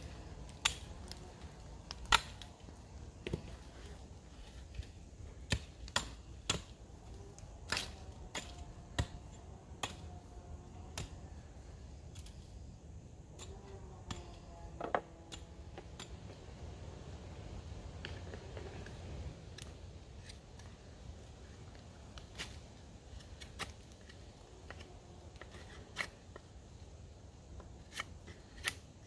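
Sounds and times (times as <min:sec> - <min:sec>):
low steady background noise: 0:00.0 - 0:29.0.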